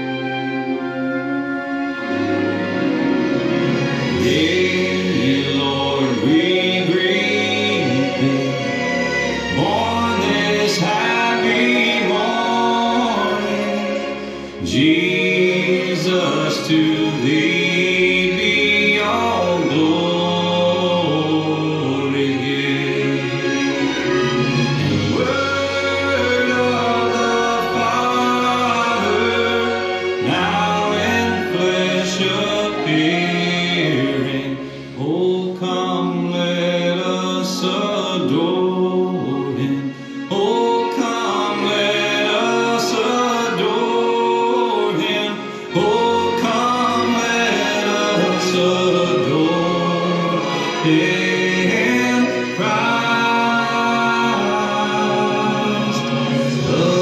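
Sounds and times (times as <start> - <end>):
choir singing: 0.0 - 57.0
instrumental accompaniment: 0.0 - 57.0.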